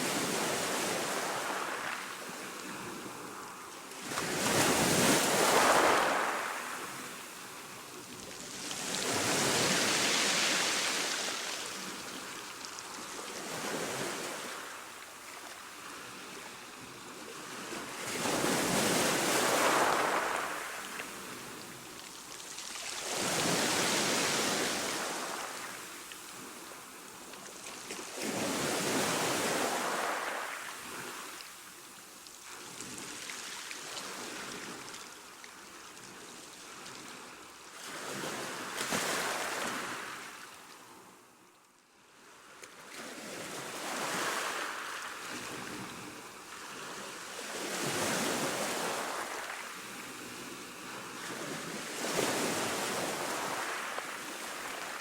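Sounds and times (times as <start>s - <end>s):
ocean waves breaking on shore: 0.0s - 31.8s, 37.8s - 41.1s, 42.8s - 55.0s.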